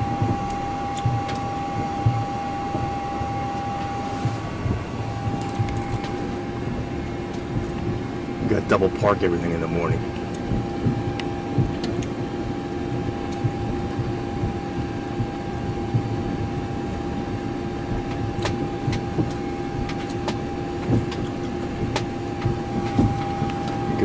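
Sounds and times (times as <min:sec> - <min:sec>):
flight deck hum with steady tones: 0:00.0 - 0:24.0
low rumble: 0:00.0 - 0:24.0.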